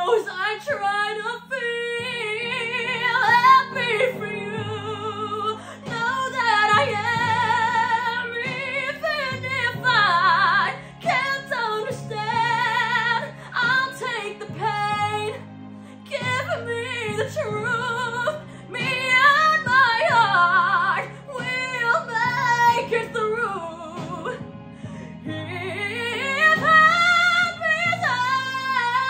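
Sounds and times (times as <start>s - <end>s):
backing track of sustained chords: 0.0s - 29.0s
woman singing pop ballad: 0.0s - 29.0s.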